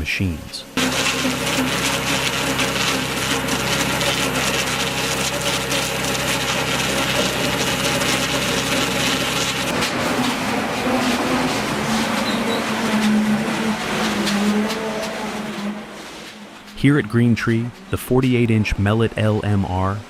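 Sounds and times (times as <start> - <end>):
machine hum: 0.0 - 20.0
debarker scraping logs: 0.8 - 19.0.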